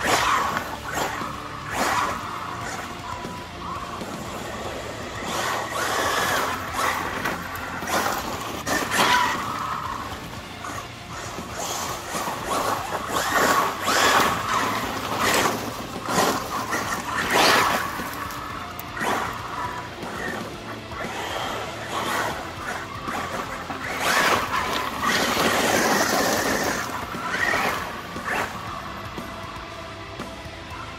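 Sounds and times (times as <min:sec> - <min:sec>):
electric motor whining: 0:00.0 - 0:30.9
gravel crunching under tyres: 0:00.0 - 0:30.9.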